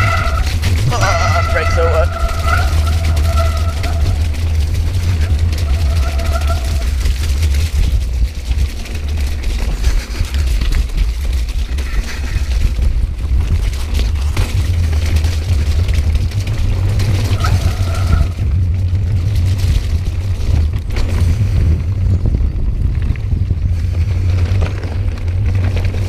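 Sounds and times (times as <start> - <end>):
mountain bike clattering and rattling: 0.0 - 26.0
tyres rumbling on dirt trail: 0.0 - 26.0
wind buffeting microphone: 0.0 - 26.0.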